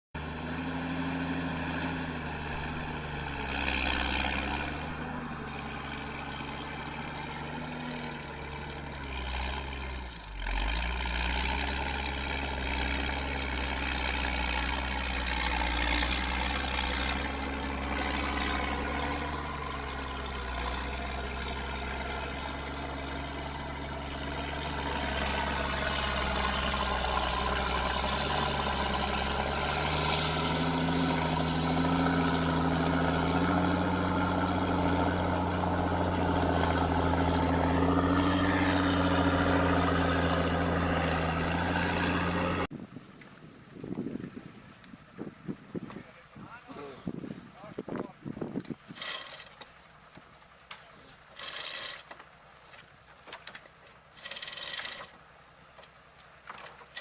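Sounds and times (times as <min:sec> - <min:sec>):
diesel truck engine under load: 0:00.1 - 0:44.6, 0:45.2 - 0:57.0.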